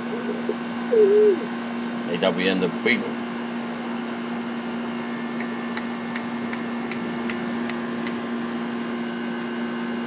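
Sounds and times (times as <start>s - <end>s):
mechanical hum with hiss: 0.0s - 10.0s.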